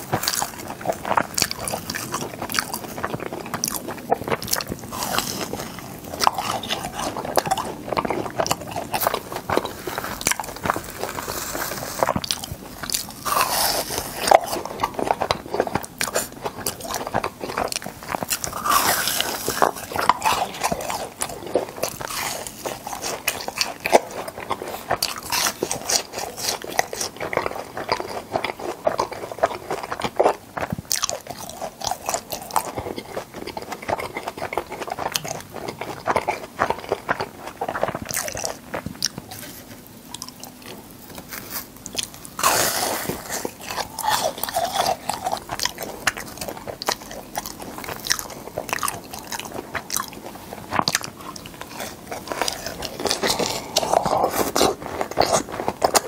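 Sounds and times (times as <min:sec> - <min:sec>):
crunchy biting and chewing: 0:00.0 - 0:56.0.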